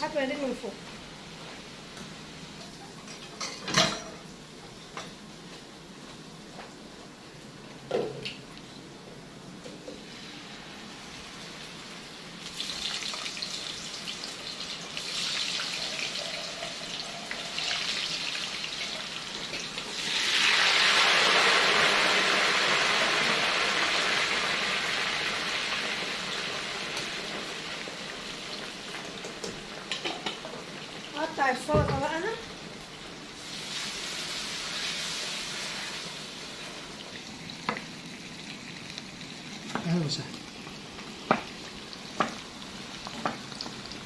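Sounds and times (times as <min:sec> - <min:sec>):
frying hiss: 0:00.0 - 0:44.0
potatoes sizzling in hot oil: 0:00.0 - 0:44.0.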